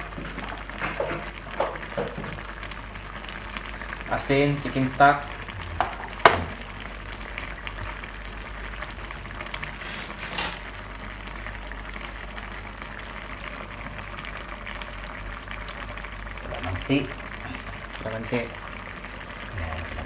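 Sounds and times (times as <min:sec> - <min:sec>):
stew bubbling in a wok: 0:00.0 - 0:20.0.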